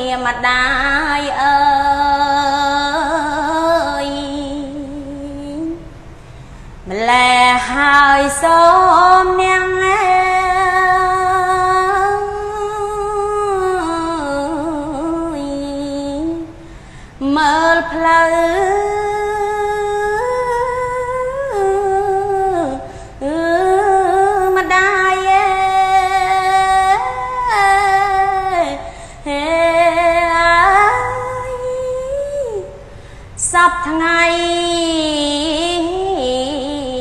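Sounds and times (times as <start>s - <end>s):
woman chanting: 0.0s - 6.0s, 6.8s - 37.0s.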